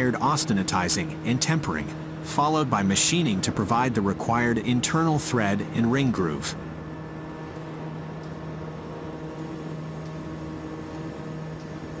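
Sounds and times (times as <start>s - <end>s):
spinning machine hum: 0.0s - 12.0s.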